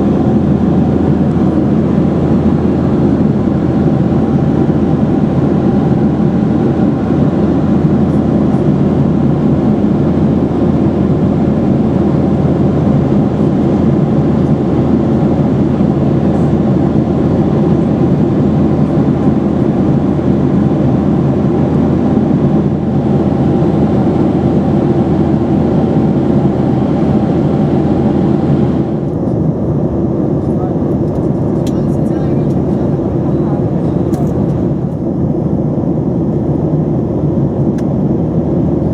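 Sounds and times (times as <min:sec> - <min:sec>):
airplane cabin engine noise: 0:00.0 - 0:38.9.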